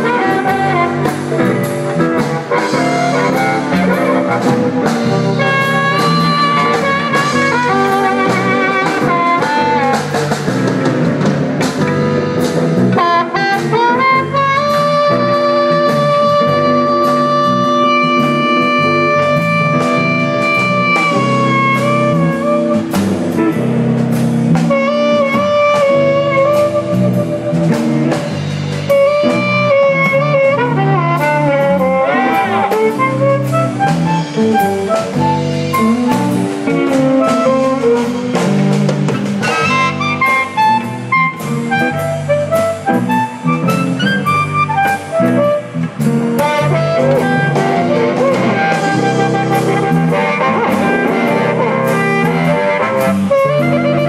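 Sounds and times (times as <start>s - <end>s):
amplified blues harmonica: 0.0s - 54.0s
drum kit steady beat: 0.0s - 54.0s.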